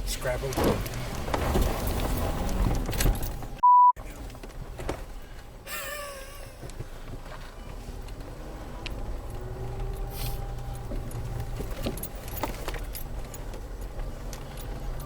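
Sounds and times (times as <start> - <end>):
rattles and knocks in car: 0.0 - 5.6, 6.6 - 15.0.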